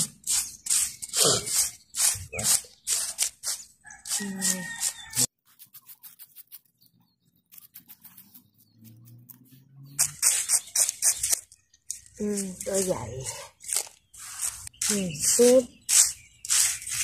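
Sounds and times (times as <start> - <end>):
spoon scraping coarse sand: 0.0 - 6.8, 7.5 - 17.0.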